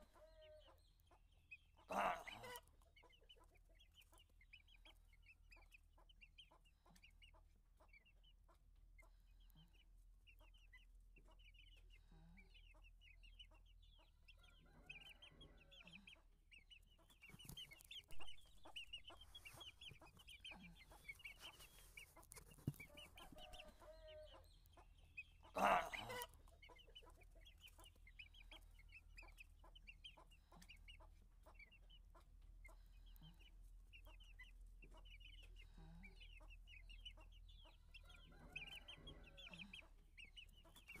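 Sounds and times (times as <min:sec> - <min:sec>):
chick clucking: 0:00.0 - 0:41.0
chicks cheeping: 0:00.0 - 0:41.0.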